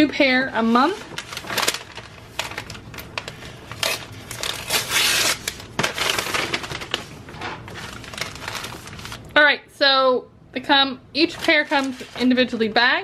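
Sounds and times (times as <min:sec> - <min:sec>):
plastic mailer rustling and crinkling: 0:00.0 - 0:09.3, 0:11.2 - 0:12.9.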